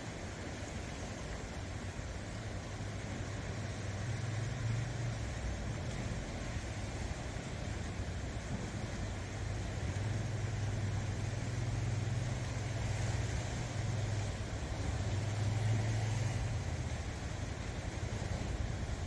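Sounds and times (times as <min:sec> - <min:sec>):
low engine-like hum: 0:00.0 - 0:19.0
waves washing over rocks: 0:00.0 - 0:19.0.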